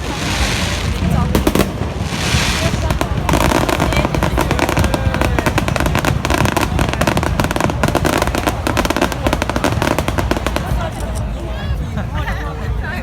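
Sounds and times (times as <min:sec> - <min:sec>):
fireworks cracks and bangs: 0:00.0 - 0:11.8.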